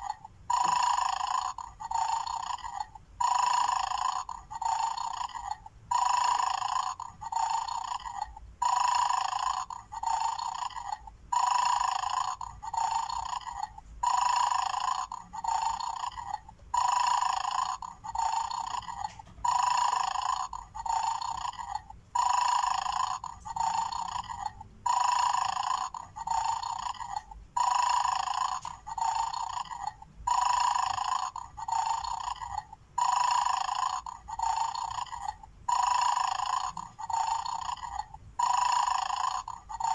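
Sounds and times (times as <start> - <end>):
electronic toy snoring: 0.0 - 39.9.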